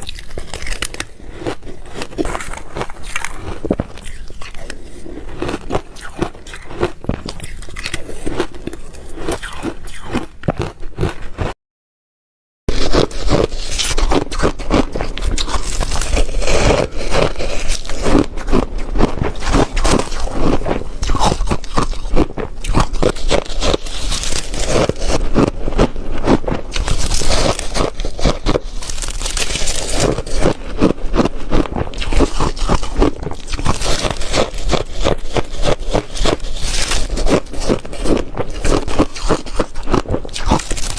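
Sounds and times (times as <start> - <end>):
ice crunching between teeth: 0.0 - 11.5, 12.7 - 40.9.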